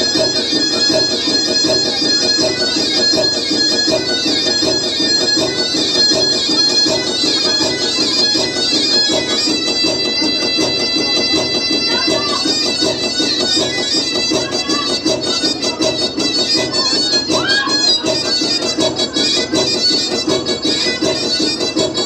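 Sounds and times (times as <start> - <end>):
bagpipe playing fast dance tune: 0.0 - 22.0.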